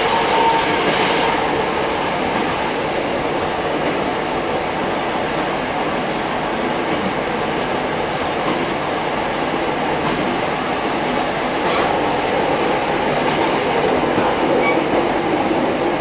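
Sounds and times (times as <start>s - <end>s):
diesel railcar running noise: 0.0s - 16.0s.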